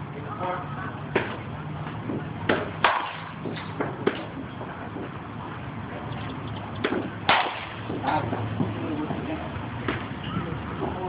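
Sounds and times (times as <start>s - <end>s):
low steady hum: 0.0s - 11.0s
baseball bat striking balls: 1.0s - 11.0s.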